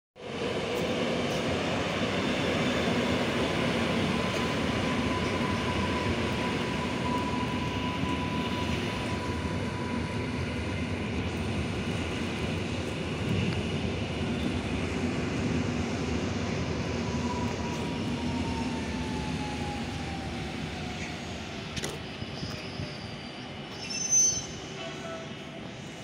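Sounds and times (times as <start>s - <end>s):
train wheels rumbling on rails: 0.2s - 26.0s.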